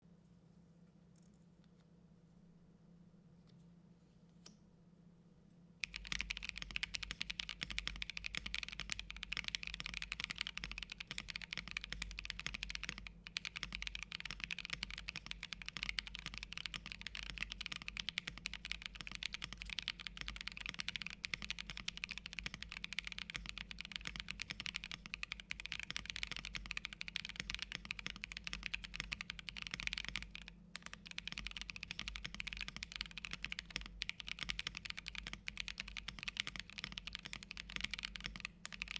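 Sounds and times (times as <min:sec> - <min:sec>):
typing on mechanical keyboard: 0:05.8 - 0:38.9.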